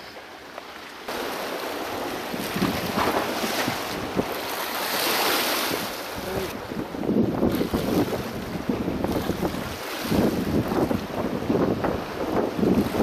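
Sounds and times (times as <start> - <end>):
waves sloshing against rocks: 0.0 - 13.0
wind buffeting microphone: 1.1 - 13.0.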